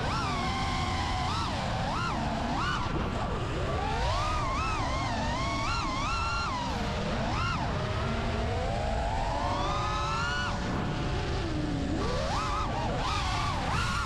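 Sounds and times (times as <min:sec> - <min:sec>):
drone motors whining: 0:00.0 - 0:14.0
wind and propeller rush: 0:00.0 - 0:14.0.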